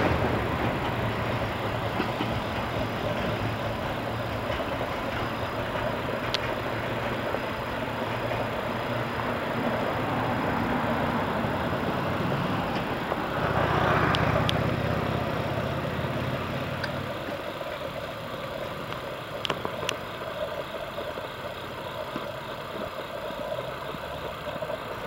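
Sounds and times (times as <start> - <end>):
electric train running by: 0.0 - 25.0.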